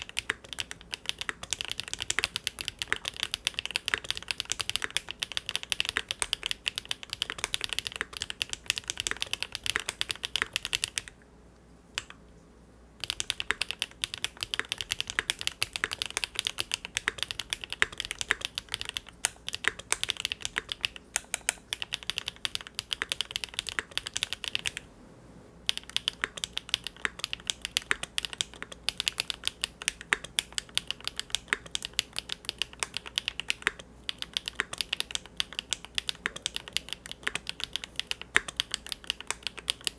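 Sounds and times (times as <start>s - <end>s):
rapid mechanical keyboard typing: 0.0s - 11.2s, 13.0s - 24.8s, 25.6s - 39.9s.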